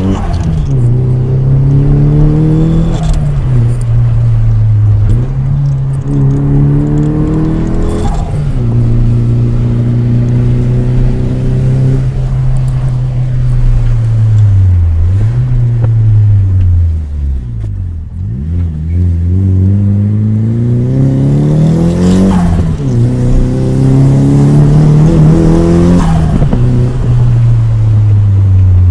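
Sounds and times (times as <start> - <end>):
car engine revving hard: 0.0 - 14.4, 18.2 - 27.9.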